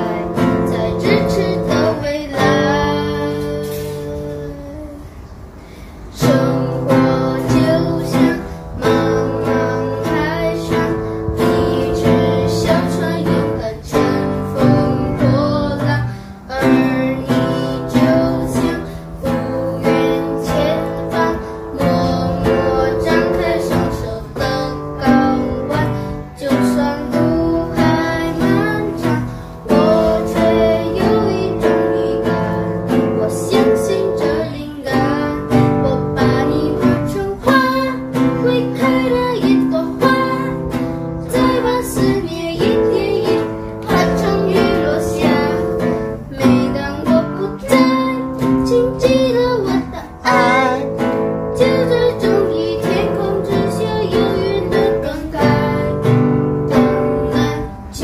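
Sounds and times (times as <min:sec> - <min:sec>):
boy singing: 0:00.0 - 0:58.0
classical guitar strumming: 0:00.0 - 0:58.0.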